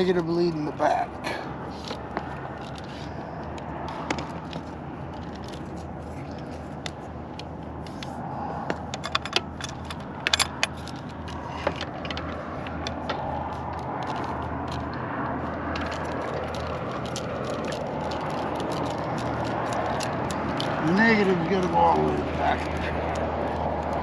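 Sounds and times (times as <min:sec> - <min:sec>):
wiring leads clicking and scraping: 0:00.0 - 0:24.0.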